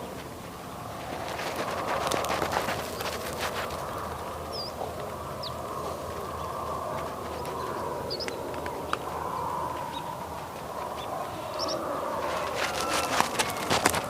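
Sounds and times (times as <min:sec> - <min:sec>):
rural background: 0:00.0 - 0:14.0.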